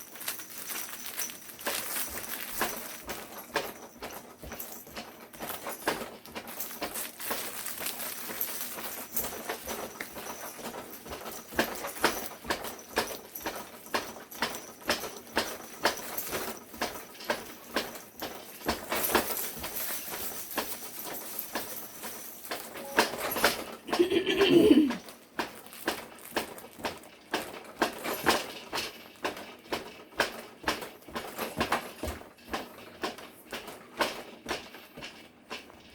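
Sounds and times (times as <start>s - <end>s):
baby bouncer clacking: 0.0s - 35.9s.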